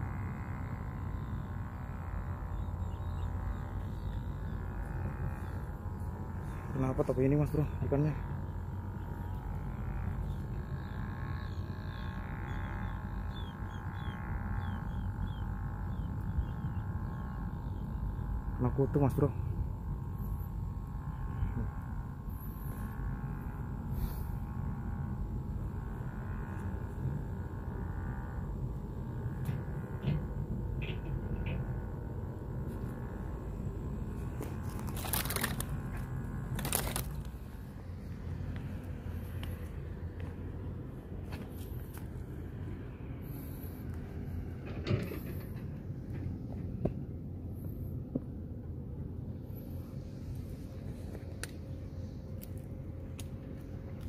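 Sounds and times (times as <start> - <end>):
steady buzzing drone: 0.0 - 54.0.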